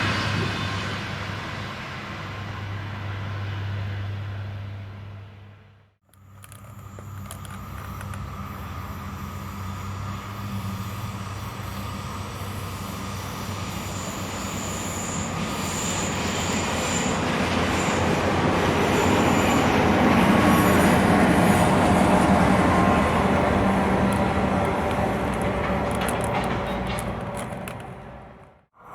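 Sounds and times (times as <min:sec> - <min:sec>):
train wheel squeal: 0:00.0 - 0:03.9, 0:06.4 - 0:27.8
train low hum: 0:00.0 - 0:28.9.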